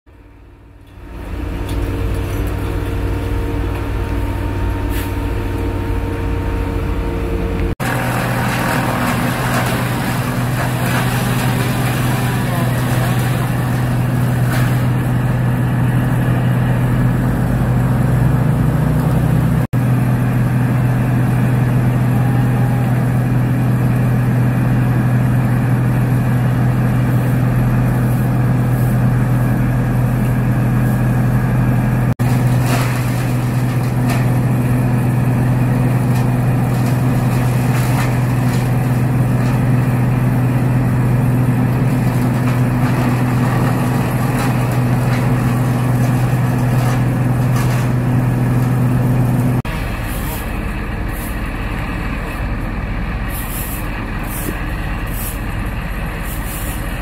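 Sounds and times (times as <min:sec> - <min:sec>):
heavy truck engine droning: 0:00.1 - 0:57.0.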